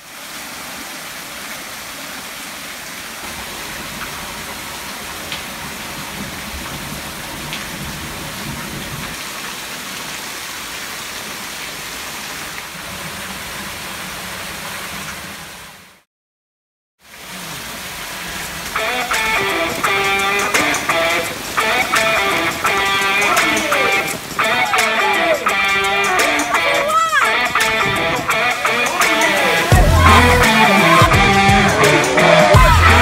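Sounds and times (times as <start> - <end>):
heavy rain pouring: 0.0 - 16.0, 17.0 - 33.0.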